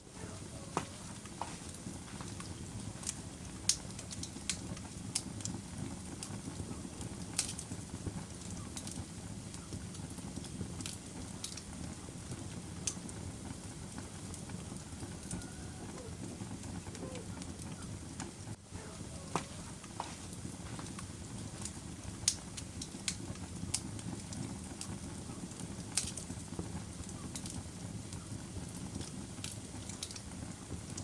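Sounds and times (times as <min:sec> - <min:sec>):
low rumble of burning logs: 0:00.0 - 0:31.0
wood fire crackling: 0:00.0 - 0:31.0
sharp pops of fire: 0:00.7 - 0:31.0.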